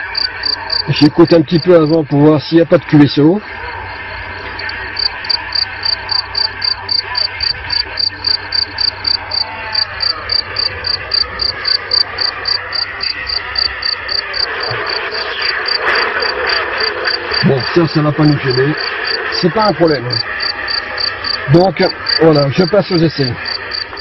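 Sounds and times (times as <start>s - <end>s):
insect chirping: 0.0s - 2.1s, 3.7s - 24.0s
radio receiver hiss: 4.5s - 24.0s.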